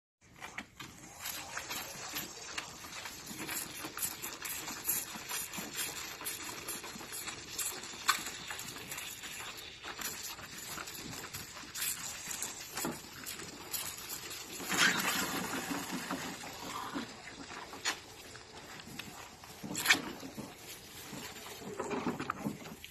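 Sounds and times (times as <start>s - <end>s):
calves sucking milk from bottles: 0.2s - 22.9s.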